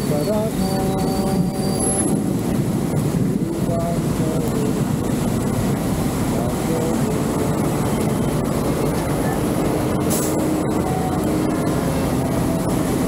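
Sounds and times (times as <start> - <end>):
road traffic roar: 0.0 - 13.0.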